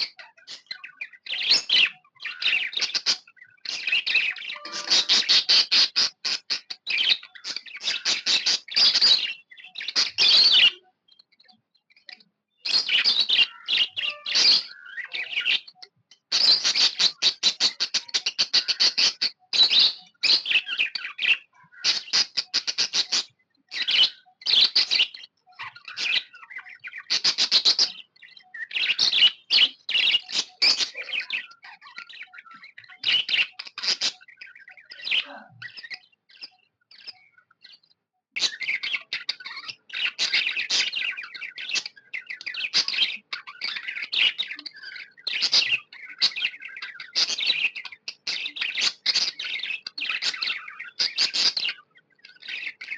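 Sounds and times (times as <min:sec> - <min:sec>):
budgerigar chirping and chattering: 0:00.0 - 0:52.9.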